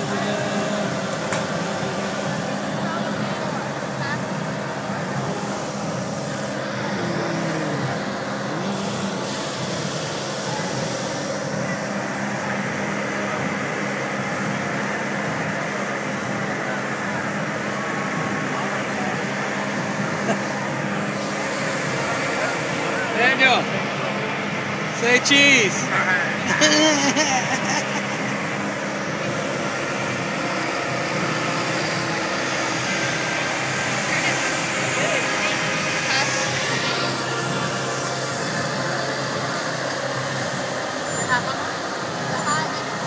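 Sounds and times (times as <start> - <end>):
crowd din: 0.0 - 43.0
street noise: 0.0 - 43.0.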